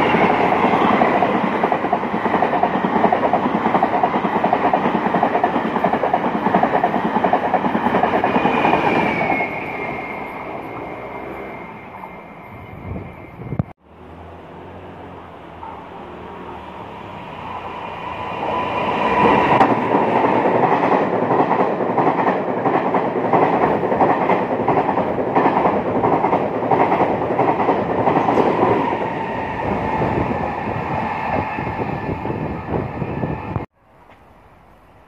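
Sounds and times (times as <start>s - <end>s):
train rushing past: 0.0s - 33.7s.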